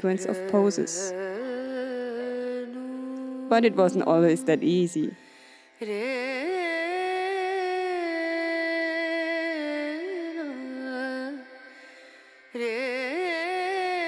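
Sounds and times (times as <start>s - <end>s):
person singing slow melody: 0.0s - 3.6s, 5.8s - 14.0s.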